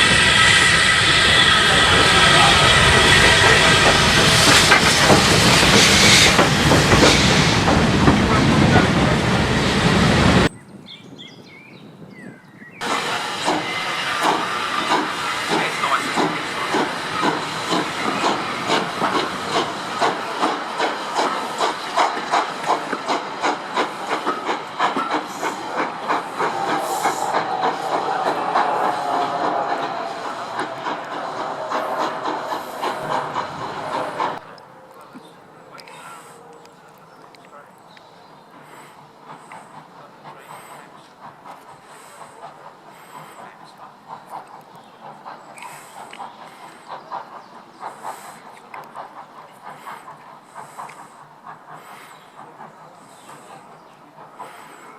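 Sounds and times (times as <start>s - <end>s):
steam hissing: 0.0s - 10.5s, 12.8s - 34.5s, 38.3s - 54.9s
steam locomotive exhaust beats: 0.0s - 10.5s, 12.8s - 34.6s, 35.7s - 54.9s.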